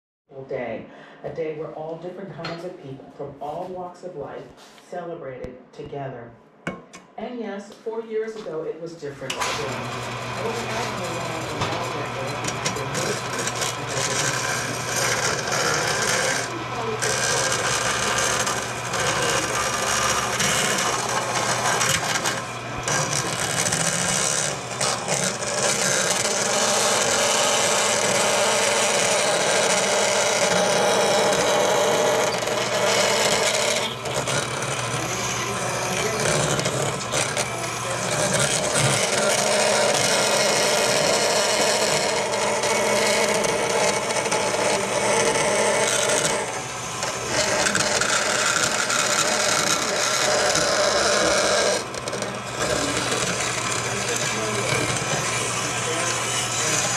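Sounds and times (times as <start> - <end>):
bandsaw cutting metal sheet: 9.2 - 56.9
saw motor hum: 9.3 - 56.9.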